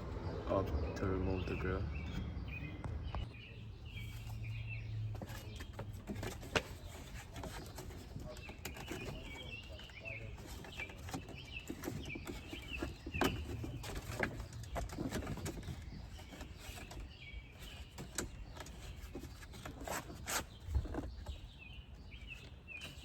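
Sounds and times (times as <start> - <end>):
small bird chirping: 0.0 - 23.0.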